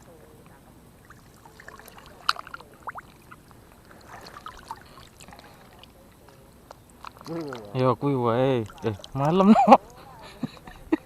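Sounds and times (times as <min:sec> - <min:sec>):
water splashing and trickling: 0:00.0 - 0:10.6.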